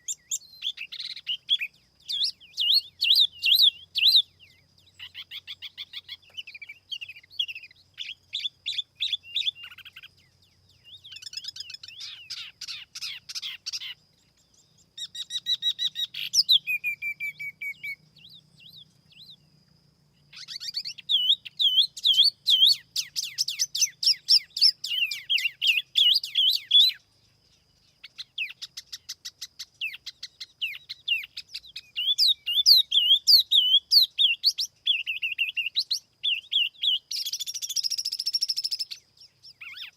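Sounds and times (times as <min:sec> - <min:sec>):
songbird chirping rapidly: 0:00.0 - 0:39.9.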